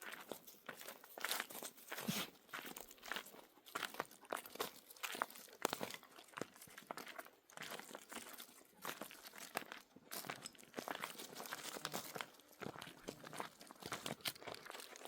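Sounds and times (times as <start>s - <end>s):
dry material crackling and crinkling: 0.0s - 15.0s.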